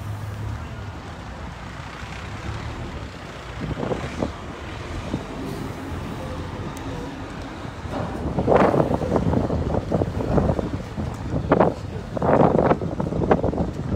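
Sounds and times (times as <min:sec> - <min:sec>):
truck diesel engine running: 0:00.0 - 0:13.9.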